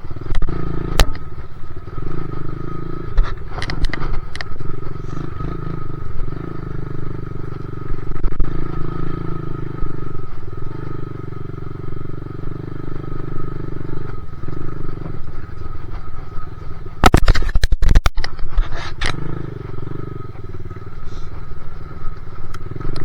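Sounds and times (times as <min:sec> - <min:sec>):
dirt bike engine under throttle: 0:00.0 - 0:23.0.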